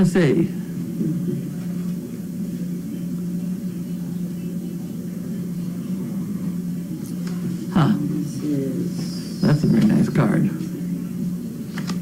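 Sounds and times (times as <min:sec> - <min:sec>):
low hum with rumble: 0:00.0 - 0:12.0.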